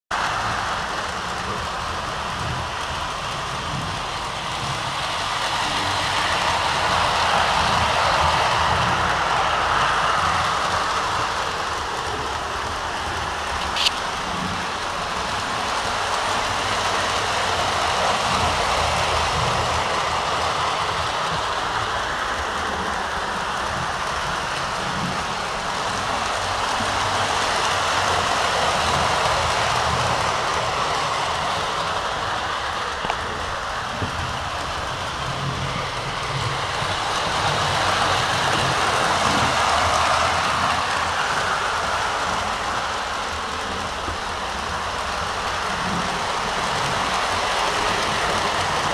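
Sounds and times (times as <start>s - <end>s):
model train wheels rumbling on rail: 0.1s - 48.9s.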